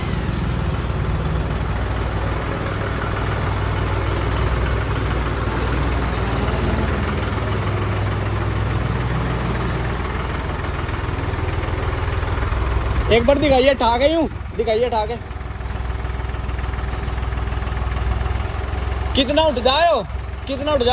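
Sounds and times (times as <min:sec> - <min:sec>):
tractor diesel engine idling: 0:00.0 - 0:20.9.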